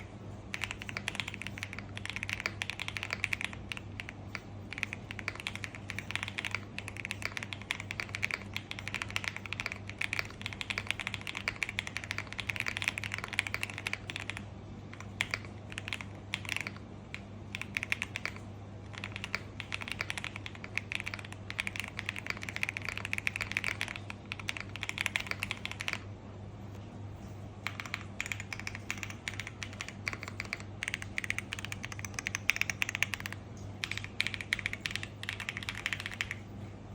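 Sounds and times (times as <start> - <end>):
mechanical keyboard typing: 0.0 - 26.1, 27.6 - 36.5.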